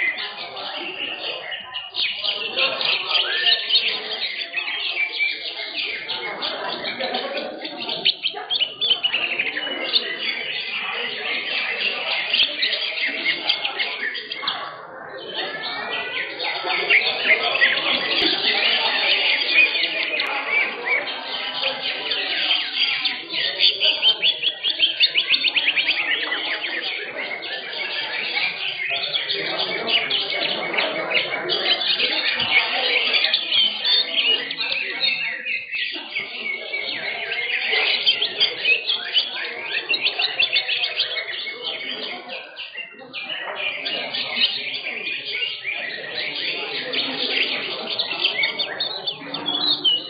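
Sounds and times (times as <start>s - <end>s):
birds chirping chorus: 0.0s - 50.0s.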